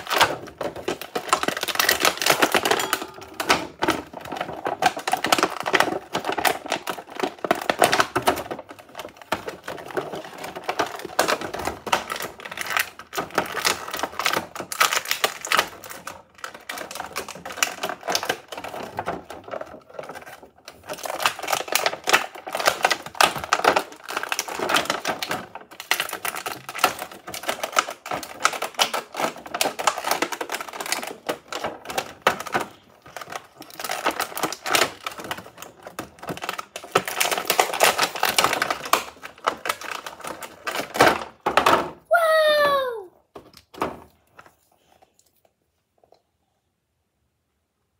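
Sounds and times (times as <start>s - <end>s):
plastic packaging crackling: 0.0s - 41.0s.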